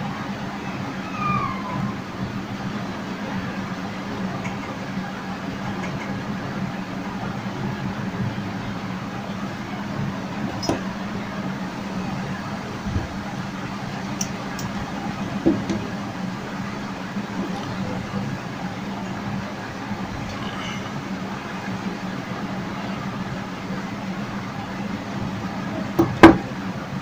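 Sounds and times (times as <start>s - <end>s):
machinery or fan hum: 0.0s - 27.0s.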